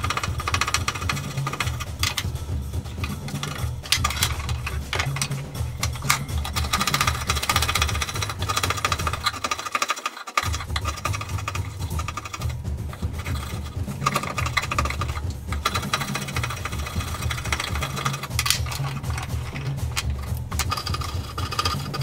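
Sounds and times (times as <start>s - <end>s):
file rasping on wood: 0.0s - 22.0s.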